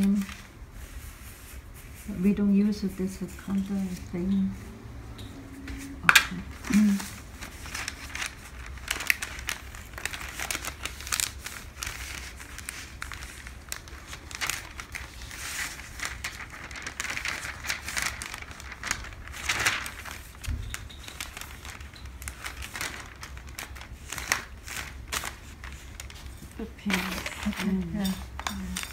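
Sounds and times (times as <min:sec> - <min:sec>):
paper rustling and crinkling: 0:00.0 - 0:04.7, 0:05.3 - 0:28.9.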